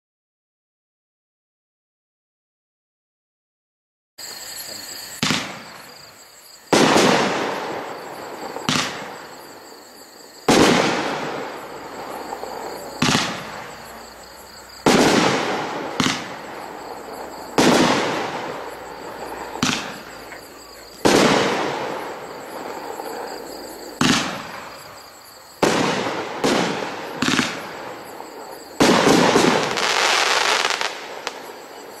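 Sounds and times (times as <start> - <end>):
crickets chirping: 4.2 - 32.0
fireworks bangs: 4.2 - 32.0.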